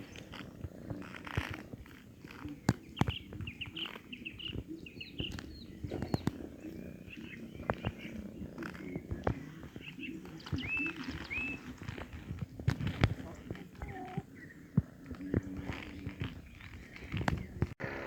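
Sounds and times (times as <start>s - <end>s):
cat purring: 0.0s - 18.0s
sharp clicks: 0.0s - 18.0s
small birds chirping: 0.0s - 18.0s.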